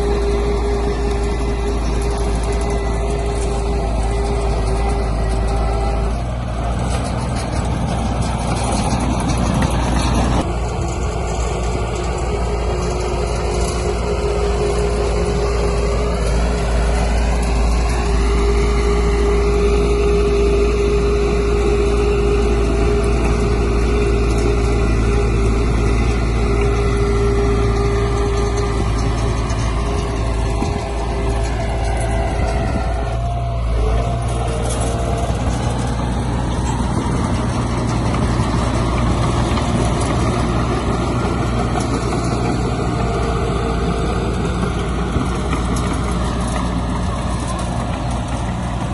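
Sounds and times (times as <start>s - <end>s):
heavy diesel engine under load: 0.0s - 48.9s.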